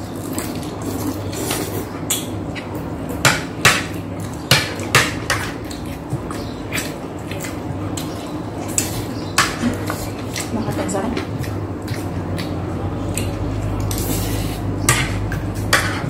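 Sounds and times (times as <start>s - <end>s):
chewing crunchy food: 0.0s - 3.1s, 3.9s - 16.0s
steady low hum: 0.0s - 16.0s.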